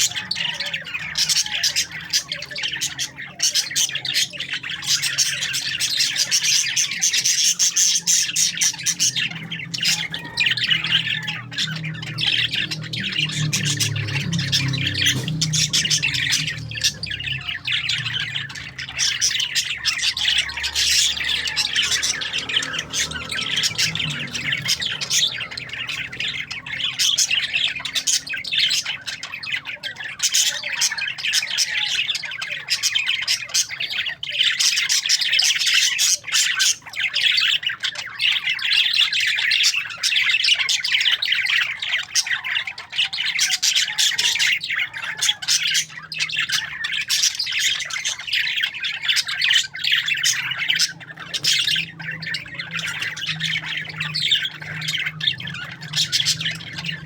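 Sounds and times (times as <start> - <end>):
parakeets chattering: 0.0 - 57.0.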